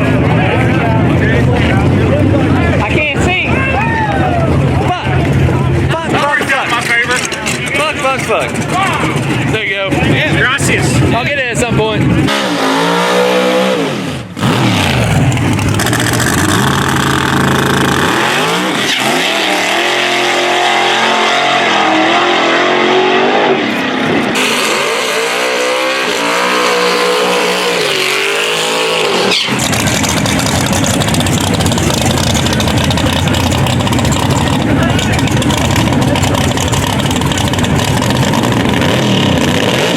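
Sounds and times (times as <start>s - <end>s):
racing car engines revving: 0.0s - 39.9s.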